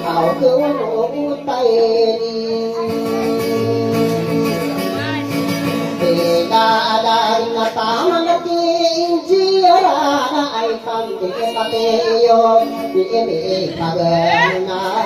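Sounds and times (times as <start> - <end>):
guitar accompaniment: 0.0 - 15.0
man singing: 0.0 - 15.0.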